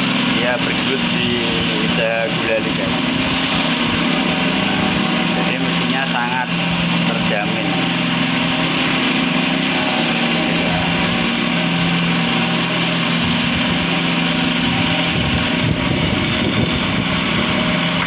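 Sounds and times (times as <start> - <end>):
cotton candy machine humming: 0.0 - 18.0.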